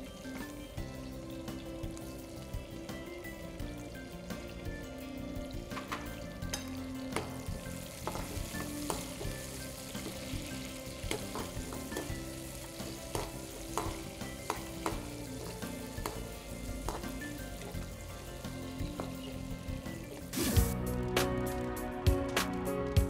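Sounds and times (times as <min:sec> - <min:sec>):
vegetables sizzling in oil: 0:00.0 - 0:20.8.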